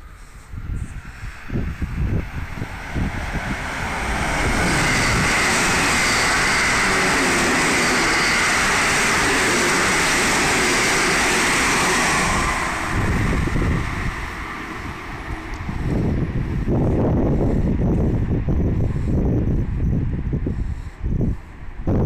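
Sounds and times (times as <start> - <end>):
train passing at speed: 0.0 - 22.0
wind buffeting microphone: 0.0 - 22.0.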